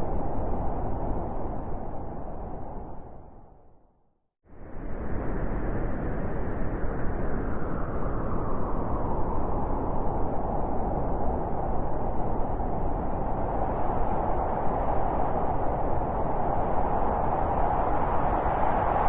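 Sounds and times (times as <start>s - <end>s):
wind blowing: 0.0s - 3.7s, 4.6s - 19.0s.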